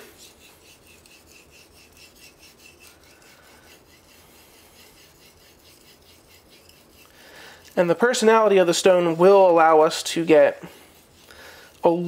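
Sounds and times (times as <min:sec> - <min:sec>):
knife scraping on whetstone: 0:00.0 - 0:12.0.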